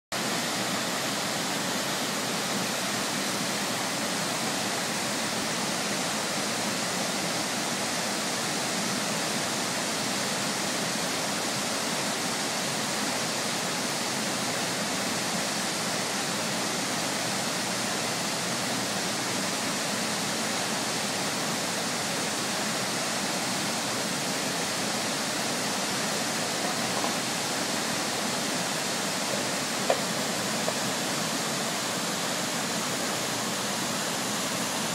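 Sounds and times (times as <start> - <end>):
whitewater rapids rushing: 0.2 - 34.9.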